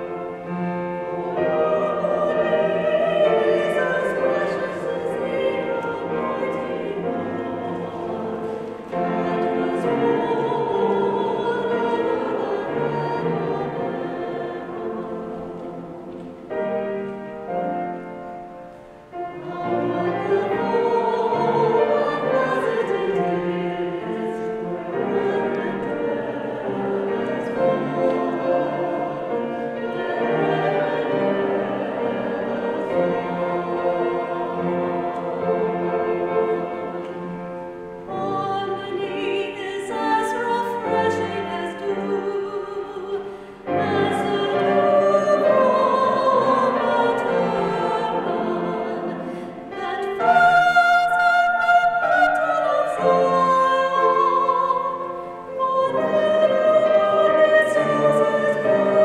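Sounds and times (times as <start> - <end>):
choir singing: 0.0 - 59.0
grand piano accompaniment: 0.0 - 59.0.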